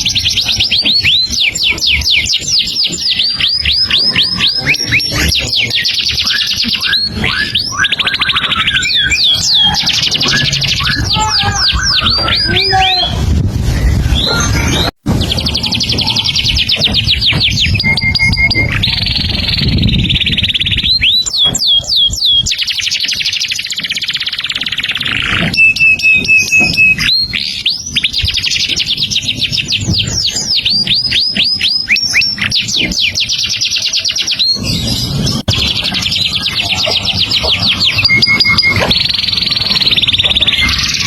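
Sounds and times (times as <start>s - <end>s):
songbird trilling and whistling: 0.0s - 13.2s, 13.8s - 41.0s.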